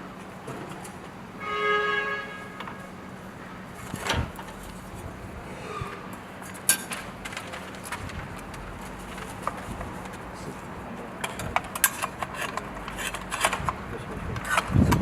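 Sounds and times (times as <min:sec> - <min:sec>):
steady low hum: 0:02.2 - 0:15.0.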